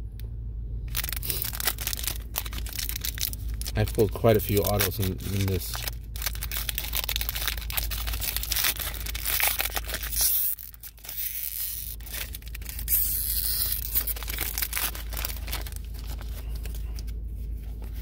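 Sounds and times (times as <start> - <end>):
foil wrapper tearing and crinkling: 0.9 - 17.2.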